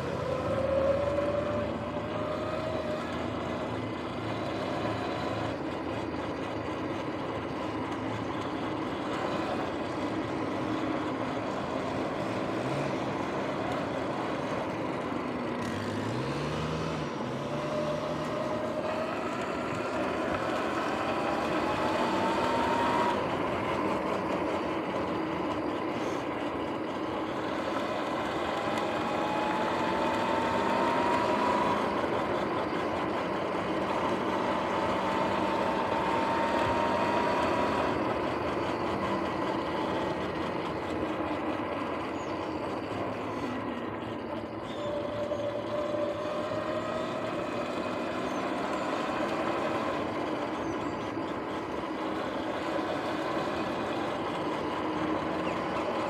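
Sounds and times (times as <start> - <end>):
electric motor whine: 0.0 - 56.0
lower whine: 0.0 - 56.0.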